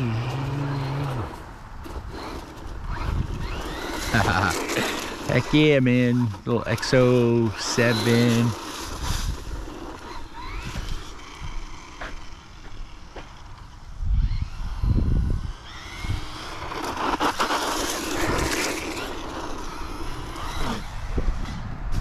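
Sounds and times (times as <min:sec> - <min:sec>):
tyres scraping over gravel: 0:00.0 - 0:14.8, 0:15.7 - 0:21.1
toy truck motor whine: 0:00.0 - 0:21.7.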